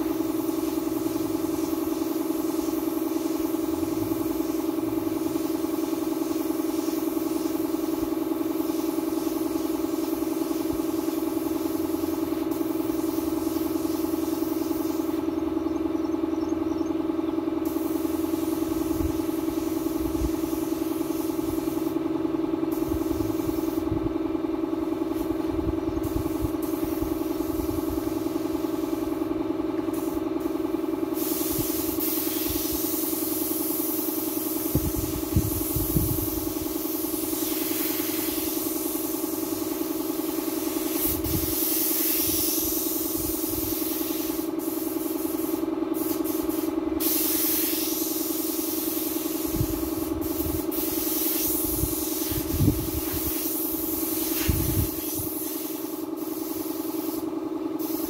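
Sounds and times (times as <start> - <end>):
air compressor humming: 0.0 - 58.0
paint spray gun hissing: 0.0 - 58.0.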